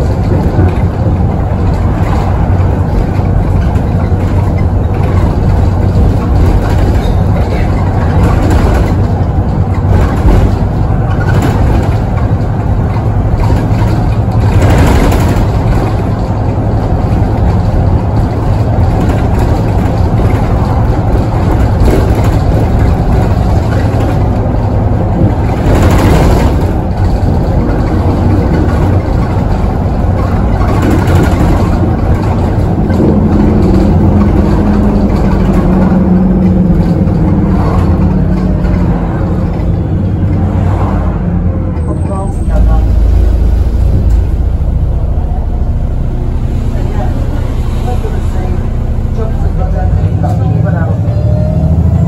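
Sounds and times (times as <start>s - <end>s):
bus diesel engine rumbling: 0.0s - 52.0s
road noise: 0.0s - 52.0s.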